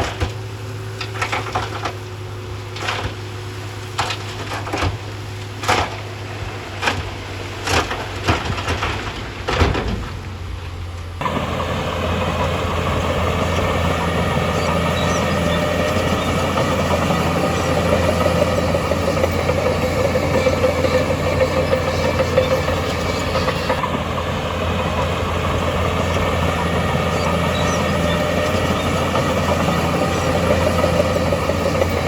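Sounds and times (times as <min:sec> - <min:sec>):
diesel engine clattering: 0:00.0 - 0:32.0.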